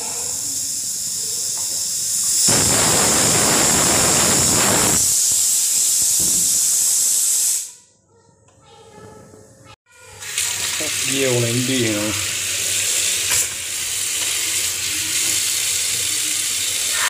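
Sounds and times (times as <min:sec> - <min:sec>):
pressure cooker steam hissing: 0:00.0 - 0:07.8, 0:10.5 - 0:17.0.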